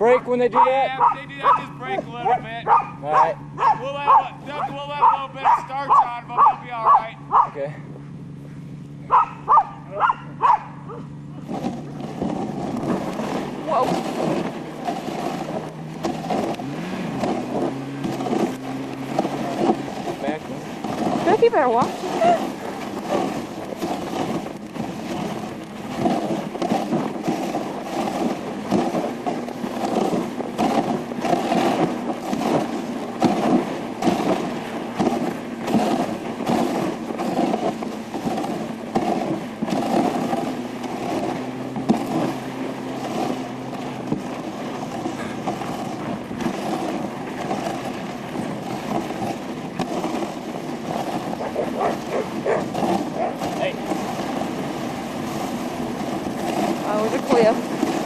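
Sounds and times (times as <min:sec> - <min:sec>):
sled knocking and rattling: 0:00.0 - 0:07.7, 0:11.2 - 0:58.0
sled runners scraping on snow: 0:00.0 - 0:58.0.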